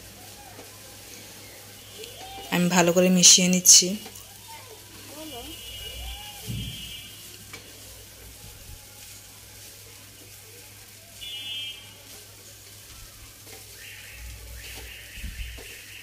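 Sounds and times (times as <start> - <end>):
rice sizzling in a pan: 0.0 - 16.0.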